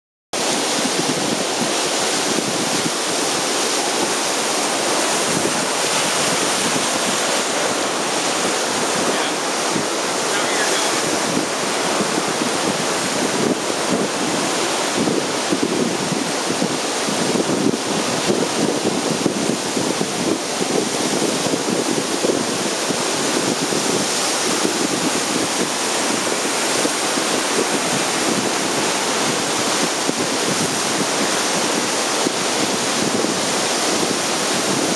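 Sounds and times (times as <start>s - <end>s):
ocean waves breaking: 0.4s - 34.9s.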